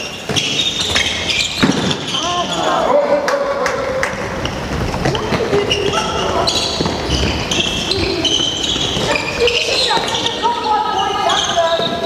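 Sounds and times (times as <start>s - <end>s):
shoes squeaking on hall floor: 0.0s - 3.1s, 4.2s - 12.0s.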